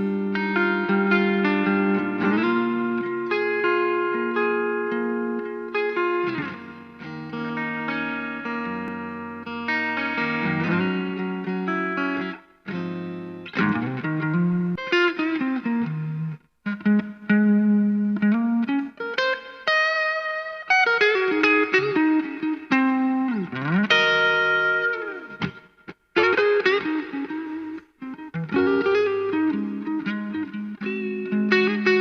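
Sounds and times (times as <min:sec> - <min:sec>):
electric guitar chords and lead lines: 0:00.0 - 0:32.0.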